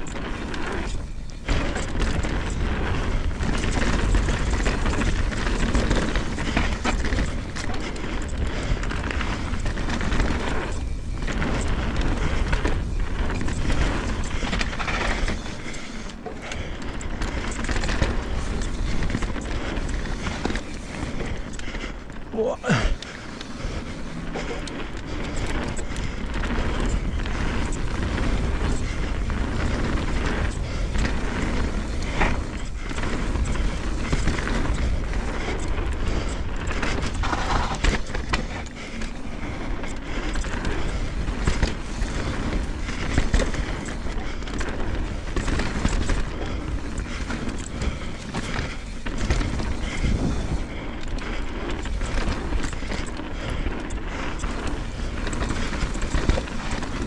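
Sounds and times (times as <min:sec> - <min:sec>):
bike knocks and rattles: 0:00.0 - 0:57.0
bike tyre noise: 0:00.0 - 0:57.0.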